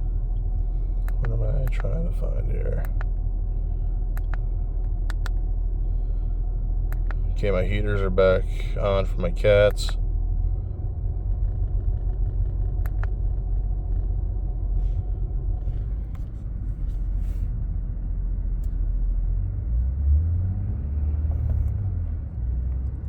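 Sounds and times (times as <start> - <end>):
car engine rumble from cabin: 0.0 - 23.0.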